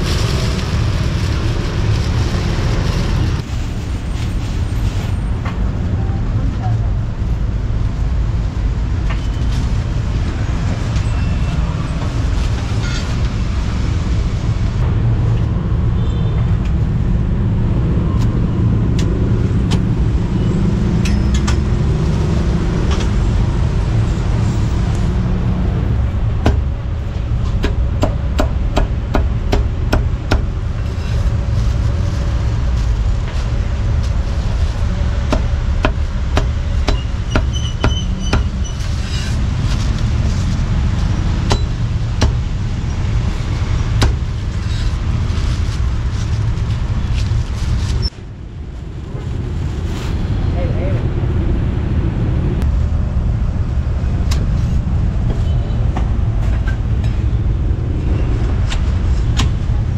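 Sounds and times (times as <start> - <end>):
low rumble of street traffic: 0.0 - 59.9.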